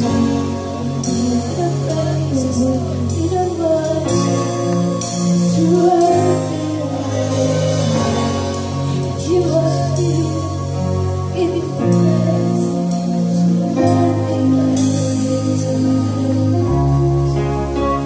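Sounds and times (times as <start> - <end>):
keyboard and bass chords: 0.0 - 18.0
woman singing: 0.0 - 18.0.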